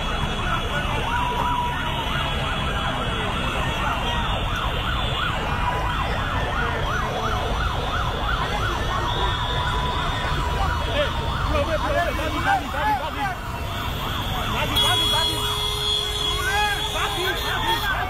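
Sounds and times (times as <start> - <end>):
low din of traffic: 0.0 - 18.0
sirens yelping: 0.0 - 18.0.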